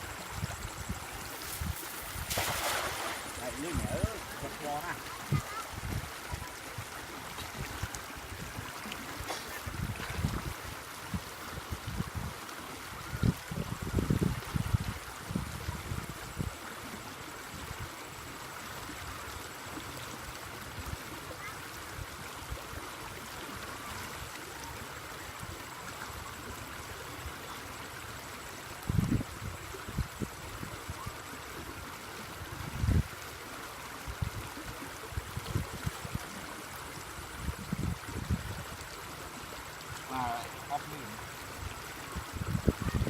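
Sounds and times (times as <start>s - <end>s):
rush of flowing water: 0.0s - 43.0s.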